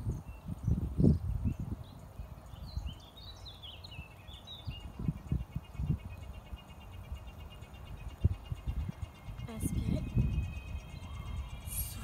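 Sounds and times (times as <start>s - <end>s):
birds chirping: 0.0s - 12.0s
bird trill: 2.4s - 12.0s.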